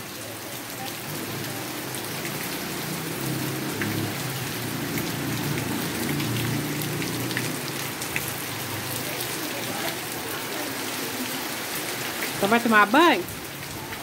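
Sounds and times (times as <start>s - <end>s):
gentle rain hiss: 0.0s - 14.0s
raindrops ticking close by: 0.0s - 14.0s.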